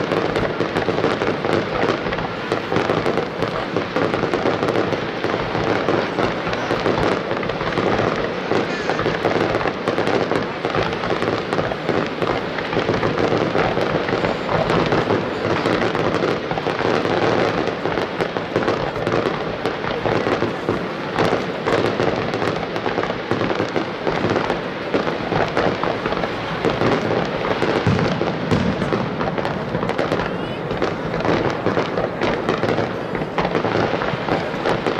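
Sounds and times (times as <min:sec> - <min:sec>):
fireworks bursting and crackling: 0:00.0 - 0:34.9.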